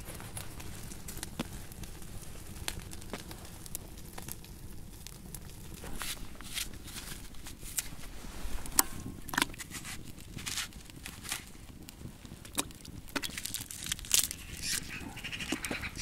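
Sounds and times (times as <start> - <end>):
hands crackling and rustling: 0.0 - 16.0.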